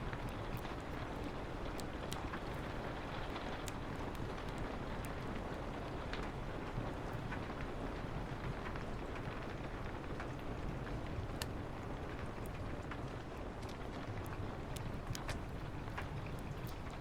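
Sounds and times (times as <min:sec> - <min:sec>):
rain on a window: 0:00.0 - 0:17.0
wood fire crackling: 0:00.0 - 0:17.0.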